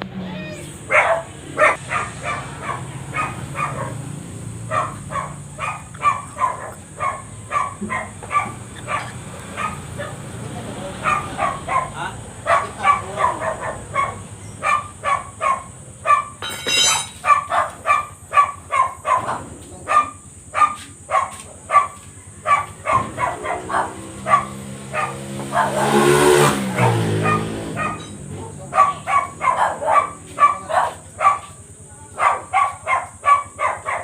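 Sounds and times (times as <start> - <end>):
vehicle passing: 0.0 - 16.4, 17.4 - 34.0
dog barking: 0.8 - 10.3, 11.0 - 34.0.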